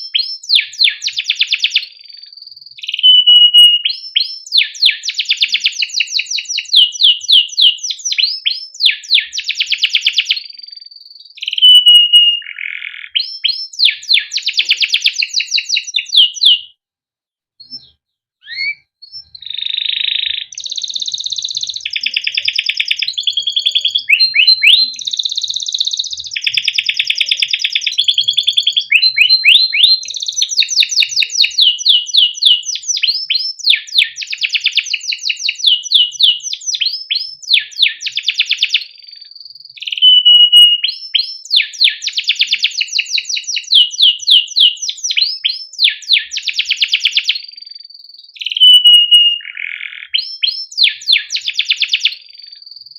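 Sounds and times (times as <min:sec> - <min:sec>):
canary singing trills: 0:00.0 - 0:16.8, 0:17.6 - 0:52.9.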